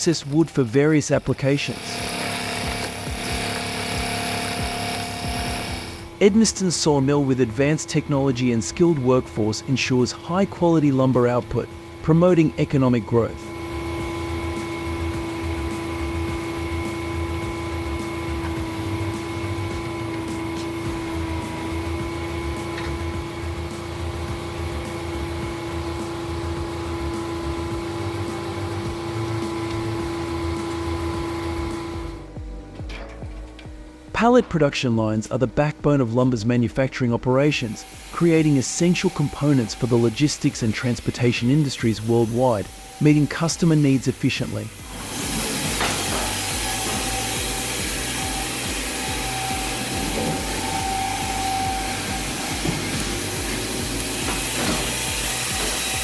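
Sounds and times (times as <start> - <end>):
background music with steady beat: 0.0 - 56.0
machinery hum: 0.0 - 56.0
noisy machinery rumble: 0.0 - 56.0.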